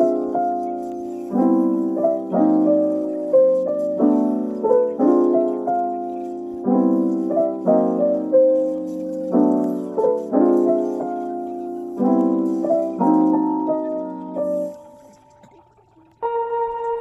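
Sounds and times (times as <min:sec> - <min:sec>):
slow piano chords and melody: 0:00.0 - 0:17.0.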